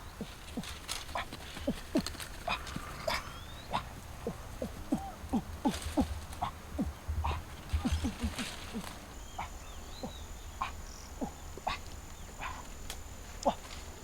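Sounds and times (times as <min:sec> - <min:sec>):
animal whimpering cries: 0:00.6 - 0:11.8.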